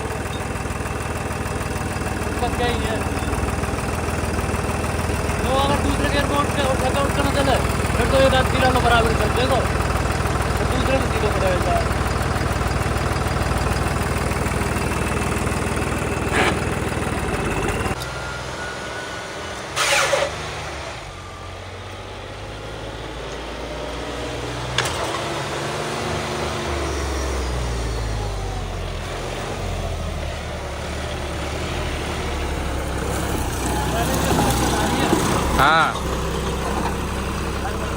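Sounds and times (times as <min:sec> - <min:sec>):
vehicle engine revving: 0:00.0 - 0:18.0, 0:19.5 - 0:37.9.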